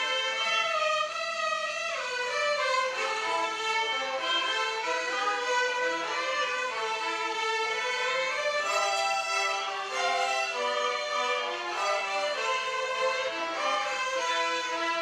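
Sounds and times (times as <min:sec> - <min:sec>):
violin ensemble playing: 0:00.0 - 0:15.0.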